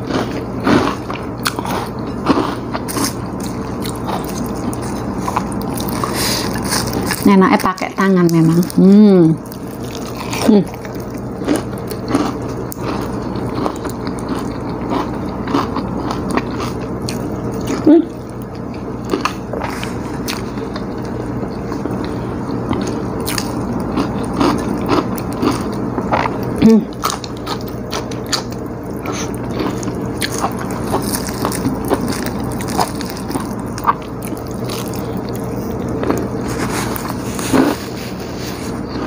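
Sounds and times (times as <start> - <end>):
person chewing food: 0.0 - 7.3, 8.2 - 39.0
crackers crunching: 0.0 - 39.0.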